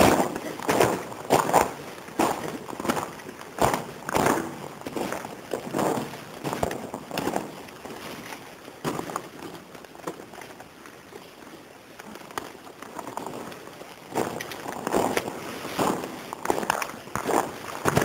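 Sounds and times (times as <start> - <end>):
footsteps crunching on rough floor: 0.0 - 18.0.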